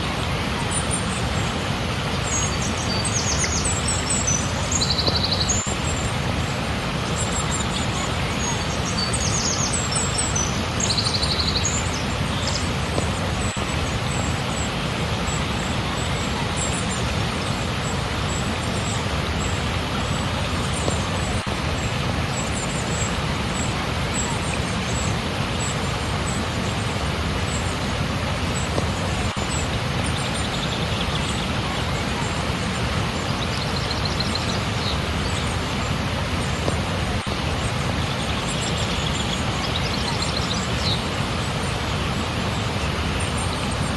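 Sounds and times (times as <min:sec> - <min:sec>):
flowing water rushing: 0:00.0 - 0:43.9.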